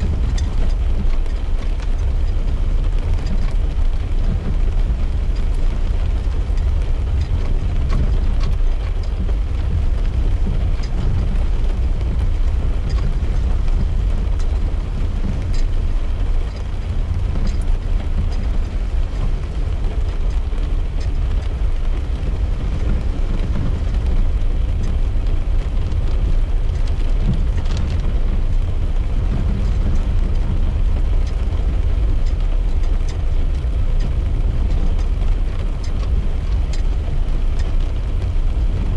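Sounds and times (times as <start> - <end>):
raindrops ticking on glass: 0.0 - 38.9
road and engine rumble: 0.0 - 38.9.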